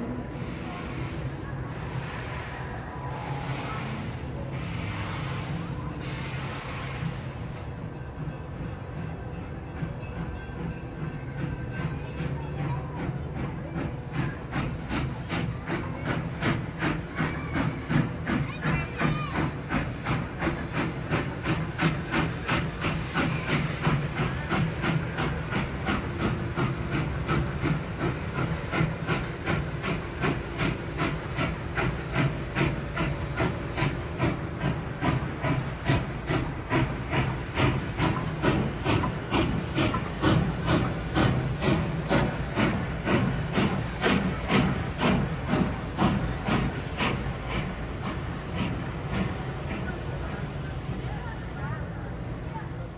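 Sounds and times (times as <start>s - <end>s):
steam hiss: 0.0s - 7.9s, 11.0s - 51.5s
steam locomotive chuffing: 0.0s - 52.9s.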